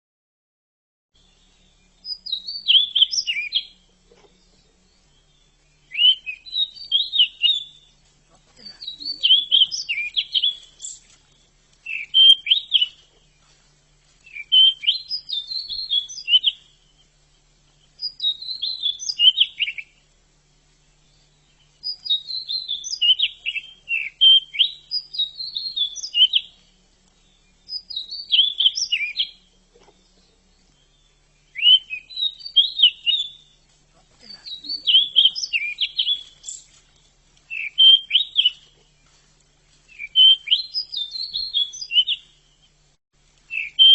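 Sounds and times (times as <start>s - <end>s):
bushchat singing warbled phrases: 1.4s - 20.1s, 21.0s - 39.0s, 39.9s - 42.7s, 43.5s - 43.9s.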